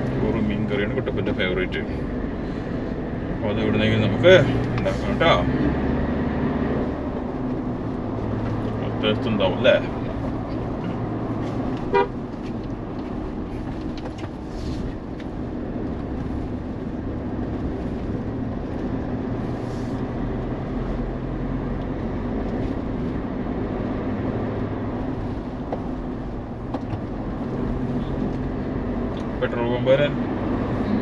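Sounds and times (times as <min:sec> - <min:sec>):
vehicle road and engine rumble: 0:00.0 - 0:31.0.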